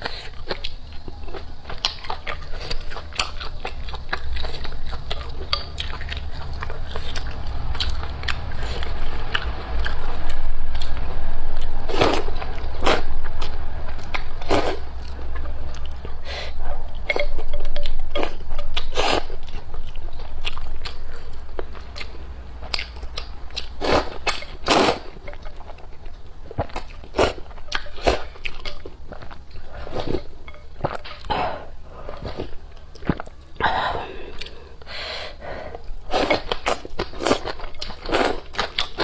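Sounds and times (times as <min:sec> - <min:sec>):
person chewing noodles: 0:00.0 - 0:39.0.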